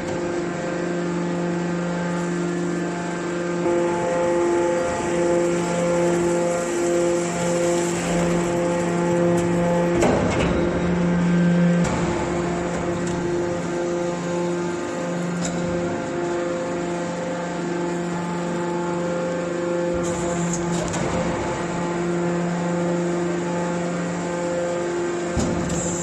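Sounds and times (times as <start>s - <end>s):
baler power unit droning hum: 0.0s - 26.0s.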